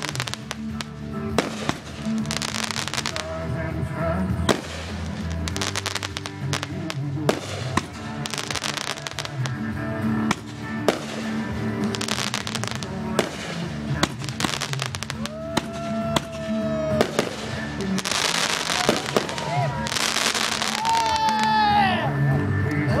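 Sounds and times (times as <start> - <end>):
fireworks bangs and crackling pops: 0.0 - 3.6, 4.3 - 21.6
music playing: 0.0 - 23.0.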